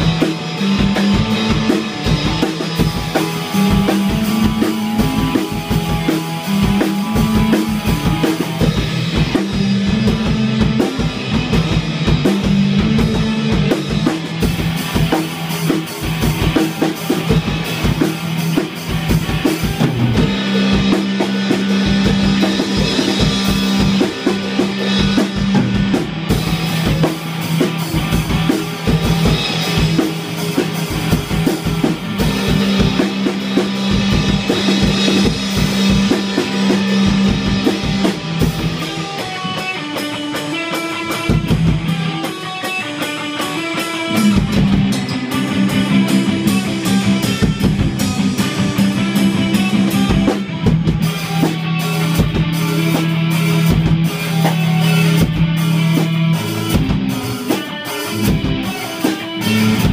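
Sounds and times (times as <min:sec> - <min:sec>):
drum kit beat: 0:00.0 - 0:59.9
electric guitars through amplifiers: 0:00.0 - 0:59.9.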